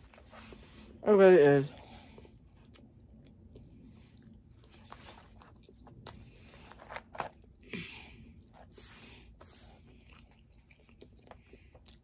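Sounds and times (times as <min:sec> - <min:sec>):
person chewing food: 0:01.8 - 0:12.0.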